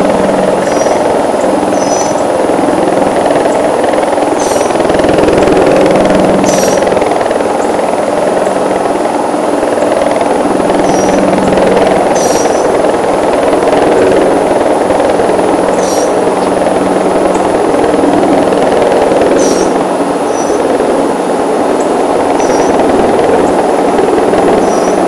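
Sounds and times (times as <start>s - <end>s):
atv engines running: 0.0s - 25.0s.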